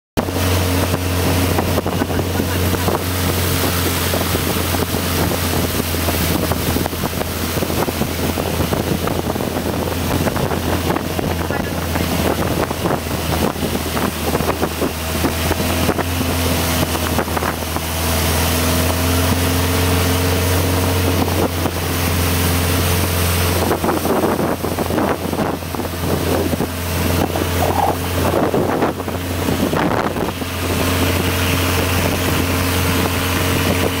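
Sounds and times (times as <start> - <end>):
boat engine droning: 0.2 - 34.0
water rushing along hull: 0.2 - 34.0
wind on microphone: 0.2 - 34.0.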